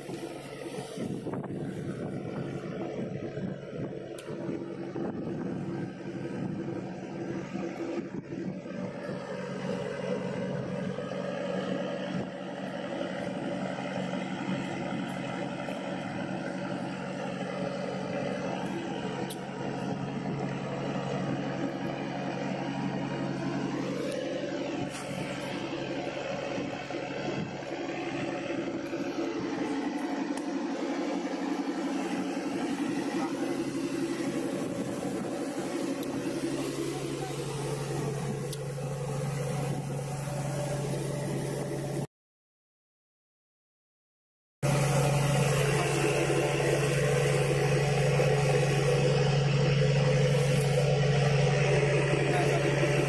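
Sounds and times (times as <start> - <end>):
water washing along hull: 0.0 - 28.4, 29.0 - 42.0, 44.7 - 53.0
motorboat engine droning: 0.0 - 42.1, 44.6 - 53.0.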